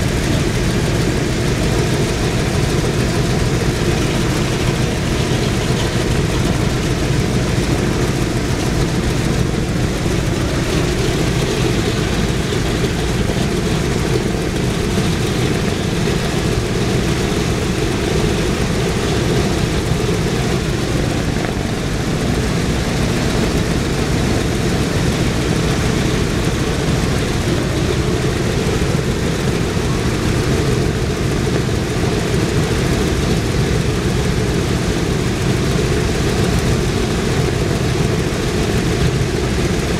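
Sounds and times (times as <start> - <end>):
radial aircraft engines idling: 0.0 - 39.9.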